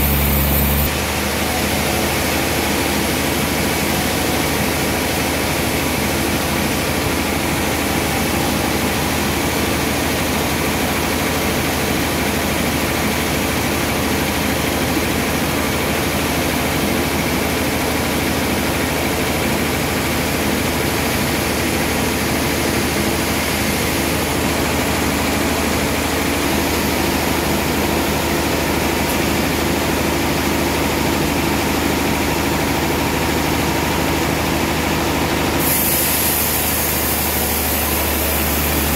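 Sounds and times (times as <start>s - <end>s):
band saw machinery running: 0.0s - 38.9s.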